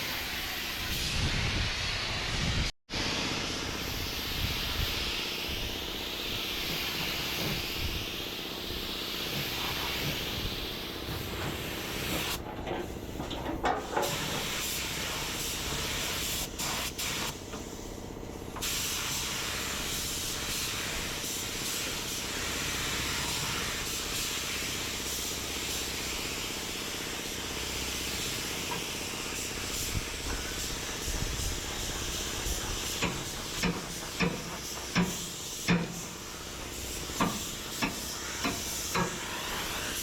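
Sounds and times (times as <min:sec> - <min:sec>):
compressed air hissing: 0:00.0 - 0:13.2, 0:13.8 - 0:40.0.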